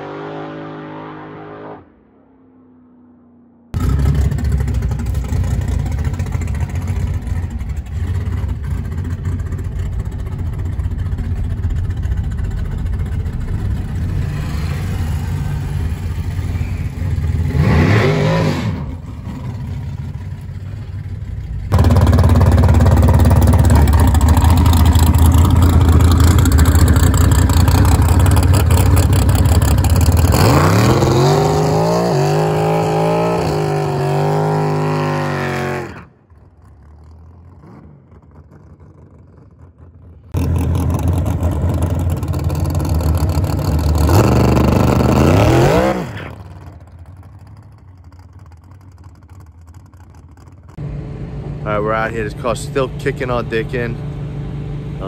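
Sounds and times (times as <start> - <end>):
drag race car engines revving: 0.0 - 2.0, 3.8 - 55.0.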